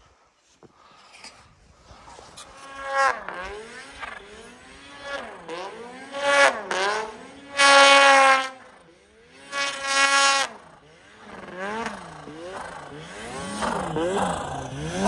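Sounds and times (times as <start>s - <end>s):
snowmobile engine revving: 1.9s - 15.0s.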